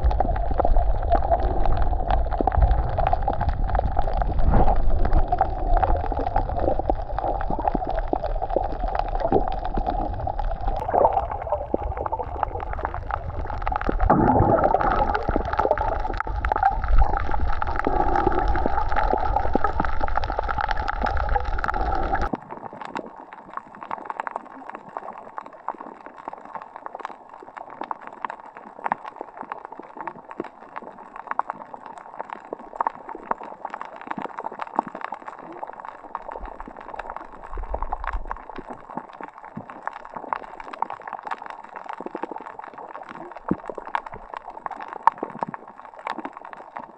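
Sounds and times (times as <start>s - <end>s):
fine crackling clicks: 0.0s - 46.9s
water gurgling and sloshing: 0.0s - 46.9s.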